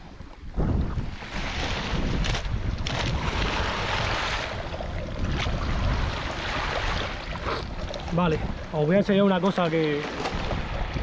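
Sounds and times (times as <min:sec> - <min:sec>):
wind buffeting microphone: 0:00.0 - 0:11.0
sea waves washing: 0:00.6 - 0:11.0.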